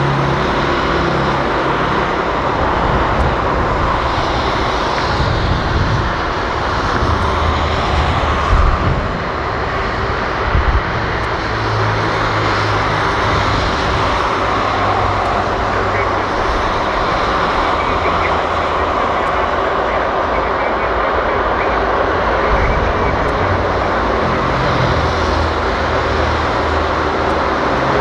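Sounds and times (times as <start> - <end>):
jet engines whine and rumble: 0.0 - 28.0.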